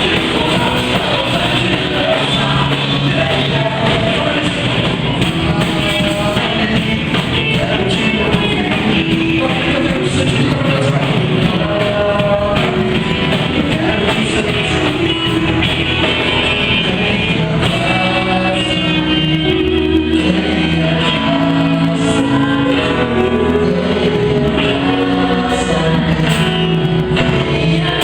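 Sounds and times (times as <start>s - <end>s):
live band playing upbeat song: 0.0s - 28.0s
person singing: 0.0s - 28.0s.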